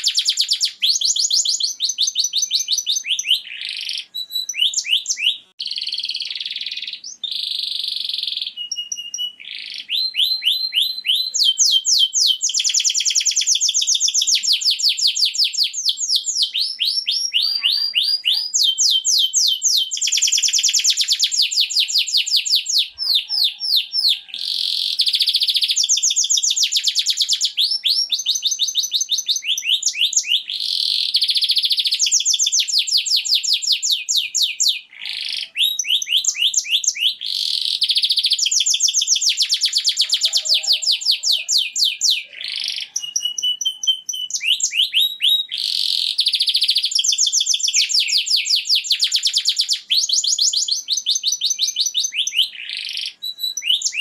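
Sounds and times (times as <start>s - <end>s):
canary singing fast trills: 0.0s - 54.0s.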